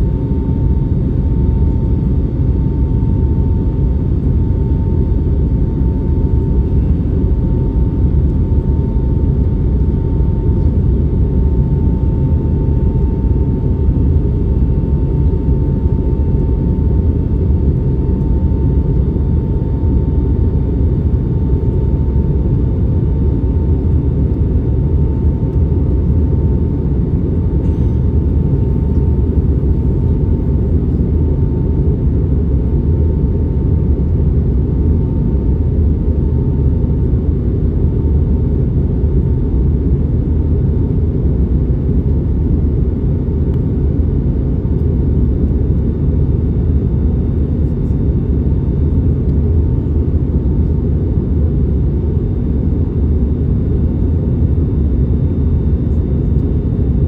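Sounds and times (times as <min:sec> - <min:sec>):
aircraft engines and airflow rumble: 0:00.0 - 0:57.0.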